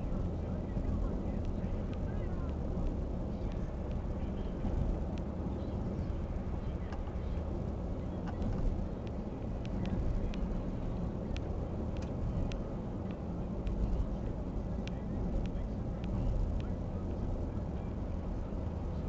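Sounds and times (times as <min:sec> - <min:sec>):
engine rumble: 0:00.0 - 0:19.0
faint clicks: 0:00.0 - 0:19.0.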